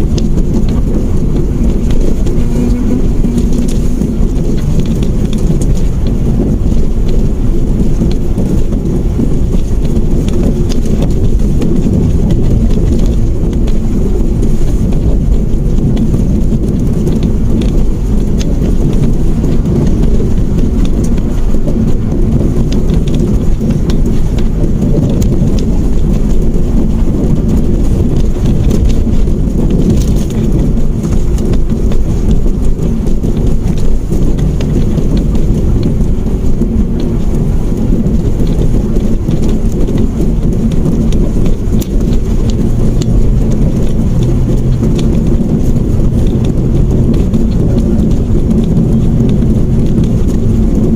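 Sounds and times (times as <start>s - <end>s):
car cabin road and engine rumble: 0.0s - 50.9s.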